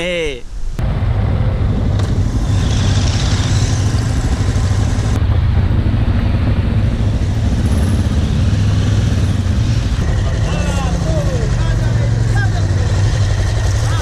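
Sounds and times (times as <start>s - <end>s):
motorcycle engine running: 1.0s - 14.0s.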